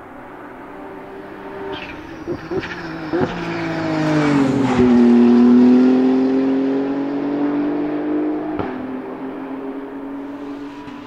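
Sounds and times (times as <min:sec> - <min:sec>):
race car engine passing: 0:00.1 - 0:11.0.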